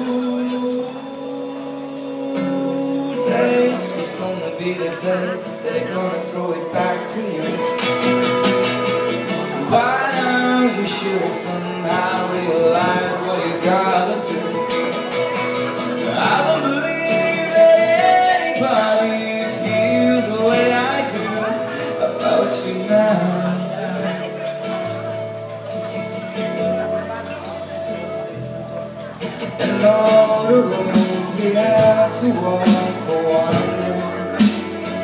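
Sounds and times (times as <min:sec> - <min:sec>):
man singing: 0:00.0 - 0:25.2, 0:29.0 - 0:35.0
acoustic guitar strumming: 0:00.0 - 0:35.0.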